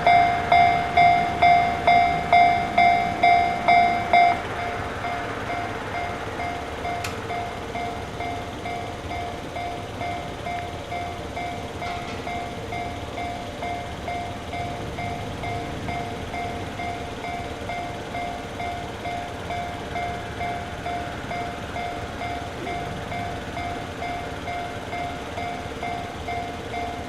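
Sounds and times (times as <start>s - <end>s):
railroad crossing bell ringing: 0.0s - 27.0s.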